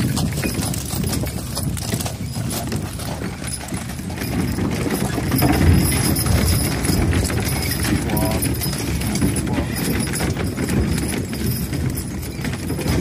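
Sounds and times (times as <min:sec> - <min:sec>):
harness and wagon rattling: 0:00.0 - 0:13.0
horse hoofbeats: 0:00.0 - 0:13.0.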